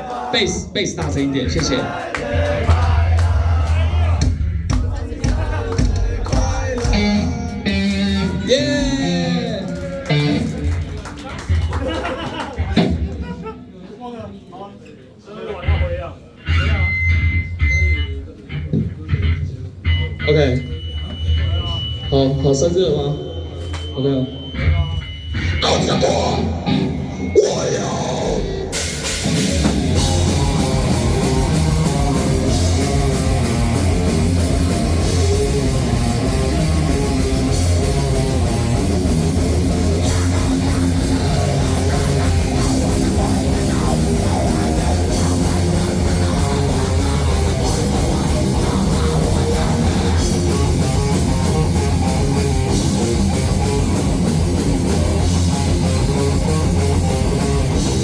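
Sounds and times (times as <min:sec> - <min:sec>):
rock band playing live: 0:04.2 - 0:11.9, 0:16.4 - 0:22.0, 0:24.4 - 0:58.0.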